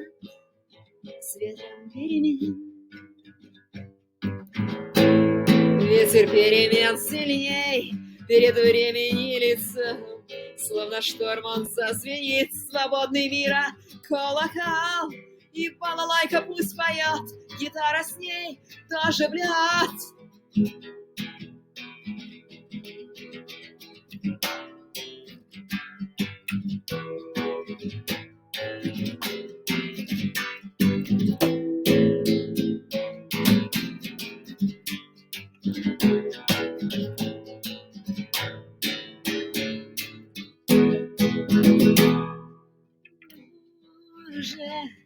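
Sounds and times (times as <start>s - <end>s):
plucked guitar run: 0.0s - 43.4s.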